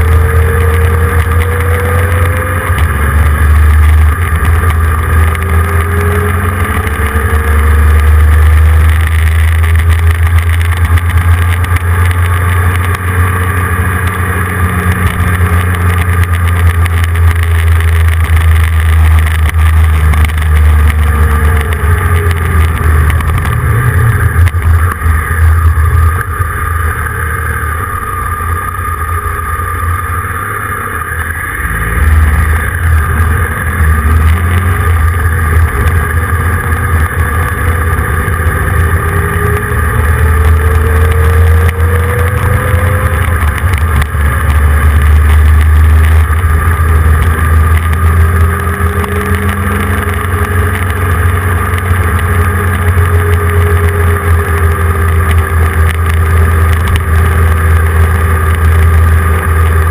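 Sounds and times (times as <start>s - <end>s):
motorcycle engine running: 0.0s - 59.9s
wind rumble: 0.0s - 59.9s.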